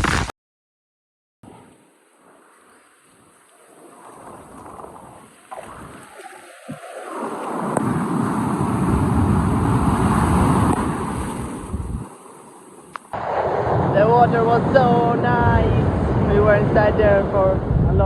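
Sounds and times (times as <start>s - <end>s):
sea and wind rushing: 1.5s - 18.0s.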